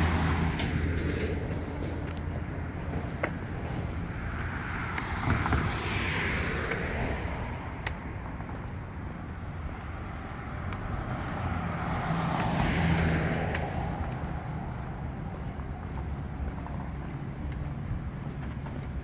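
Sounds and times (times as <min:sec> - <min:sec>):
car passing close by: 0:00.0 - 0:17.1
street traffic rumble: 0:00.0 - 0:19.0.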